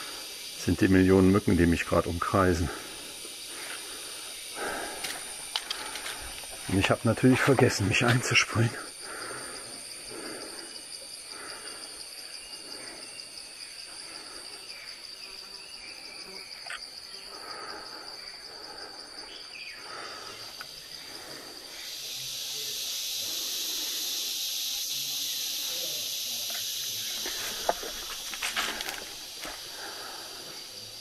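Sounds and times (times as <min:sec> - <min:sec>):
crickets trilling: 0:00.0 - 0:31.0
hissing insect drone: 0:00.0 - 0:31.0.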